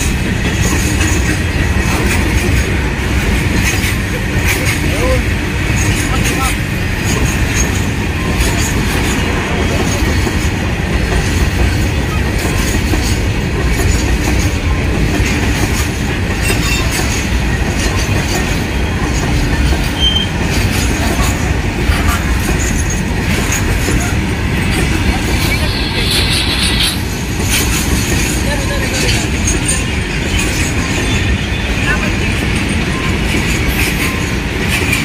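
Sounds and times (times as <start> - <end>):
freight train wheels rumbling on rail: 0.0 - 35.0
wheels clattering over rail joints: 0.0 - 35.0.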